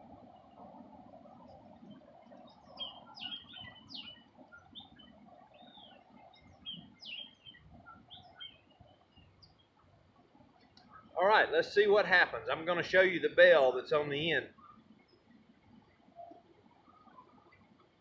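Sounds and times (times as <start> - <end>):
faint low hum: 0.0 - 18.0
small birds chirping: 0.1 - 11.2, 14.2 - 18.0.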